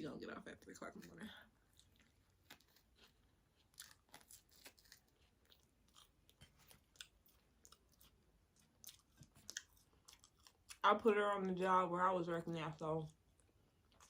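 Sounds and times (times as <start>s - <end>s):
chewing and biting food: 0.6s - 11.6s, 12.4s - 14.0s.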